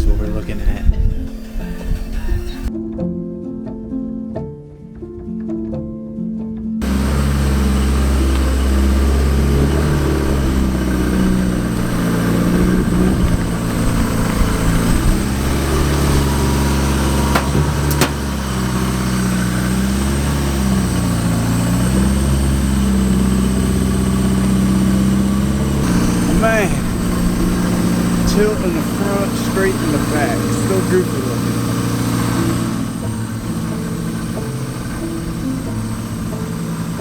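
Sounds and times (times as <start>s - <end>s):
car engine running: 0.0s - 2.7s, 6.8s - 37.0s.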